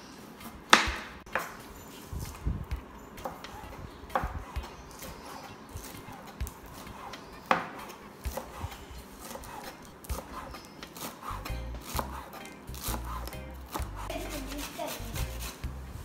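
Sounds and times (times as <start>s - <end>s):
knife chopping on cutting board: 0.4s - 1.6s, 3.2s - 15.8s.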